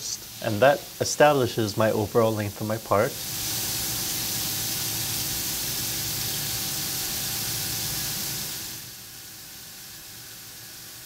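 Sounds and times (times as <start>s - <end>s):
coolant spraying hiss: 0.0s - 11.0s.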